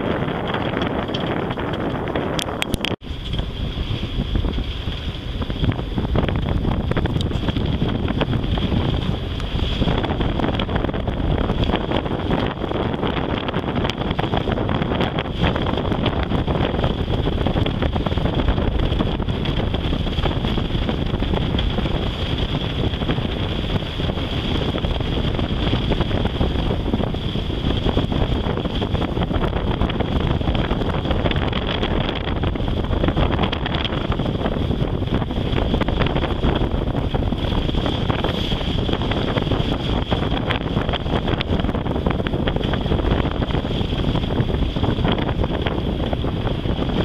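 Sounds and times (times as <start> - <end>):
choppy water washing: 0.0 - 47.0
wind buffeting microphone: 0.0 - 47.0.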